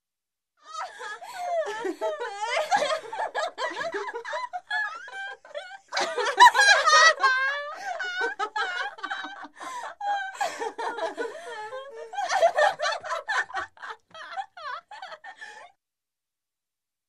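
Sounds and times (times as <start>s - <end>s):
girls laughing: 0.7s - 15.6s.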